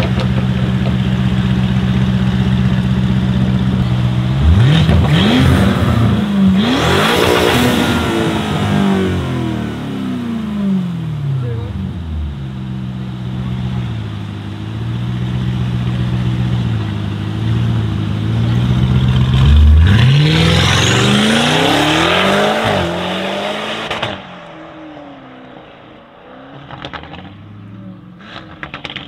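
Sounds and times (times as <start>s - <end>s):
car engine accelerating: 0.0s - 29.0s
exhaust crackles: 0.0s - 29.0s.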